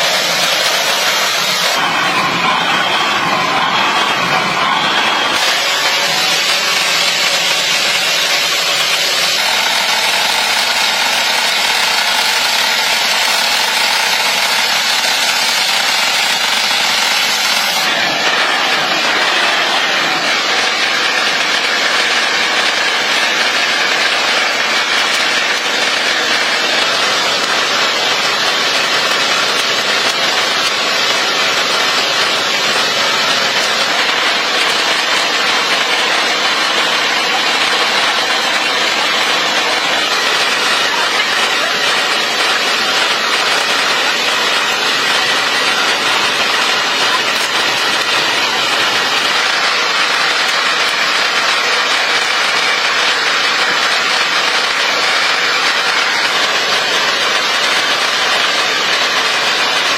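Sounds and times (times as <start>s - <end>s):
loud machine noise: 0.0s - 59.9s.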